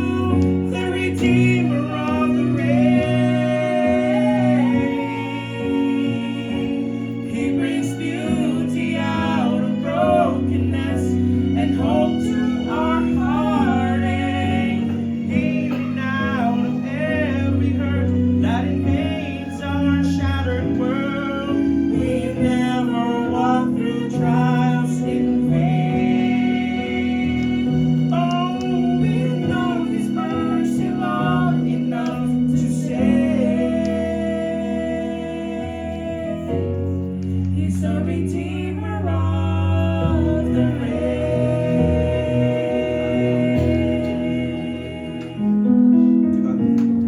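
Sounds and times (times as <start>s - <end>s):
person singing gospel: 0.0s - 47.0s
sustained instrumental accompaniment: 0.0s - 47.0s.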